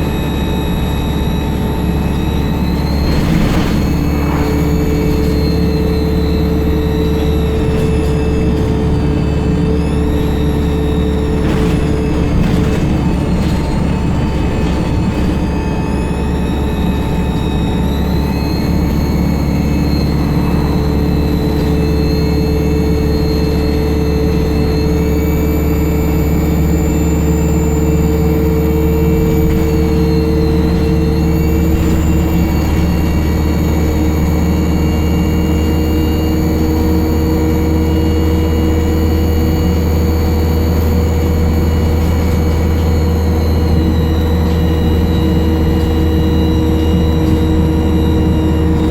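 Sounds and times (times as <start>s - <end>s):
turbocharger whistle: 0.0s - 12.2s, 15.5s - 48.9s
bus engine drone: 0.0s - 48.9s.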